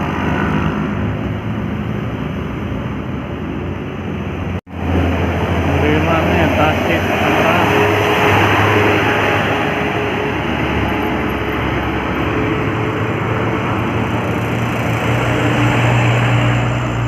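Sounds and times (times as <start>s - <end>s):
dense road noise: 0.0s - 17.0s
large vehicle engine humming: 0.0s - 17.0s.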